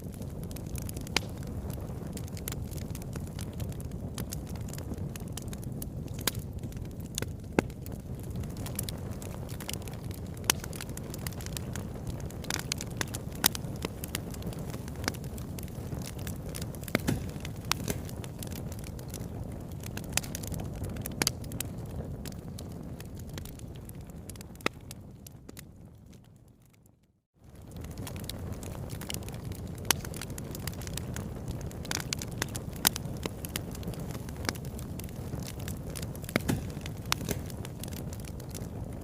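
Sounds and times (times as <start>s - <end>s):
fire crackles and pops: 0.0s - 39.0s
low rumble of flames: 0.0s - 39.0s.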